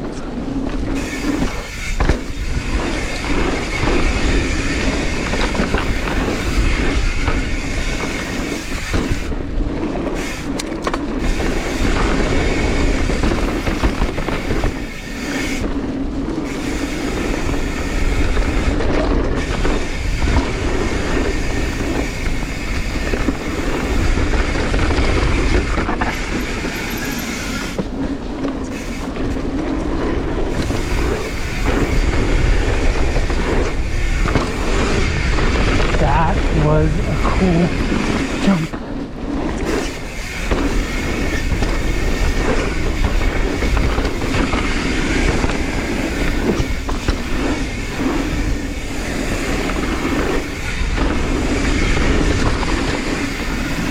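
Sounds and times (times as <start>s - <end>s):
bike rattling: 0.0s - 53.9s
tyres rolling on dirt: 0.0s - 53.9s
wind rushing over microphone: 0.0s - 53.9s.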